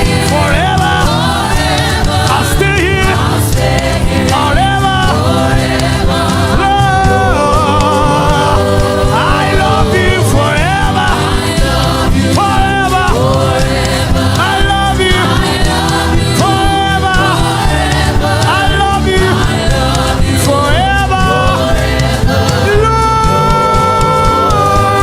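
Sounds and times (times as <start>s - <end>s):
gospel choir singing: 0.0s - 25.0s
instrumental accompaniment: 0.0s - 25.0s.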